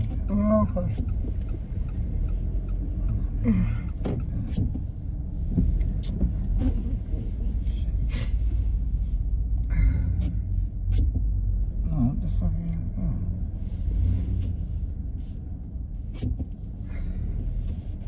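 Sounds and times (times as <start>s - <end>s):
car interior rumble: 0.0s - 18.0s.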